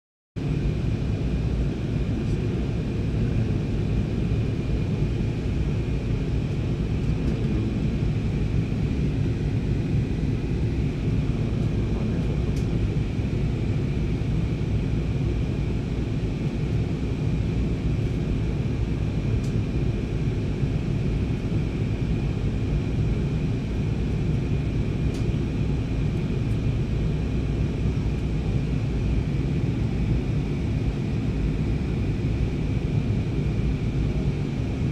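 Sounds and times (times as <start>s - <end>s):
airliner cabin engine drone: 0.4s - 34.9s.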